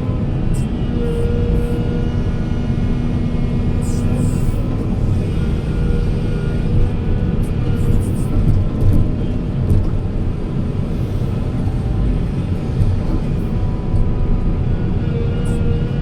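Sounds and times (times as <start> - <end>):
heavy machine engine rumbling: 0.0 - 16.0.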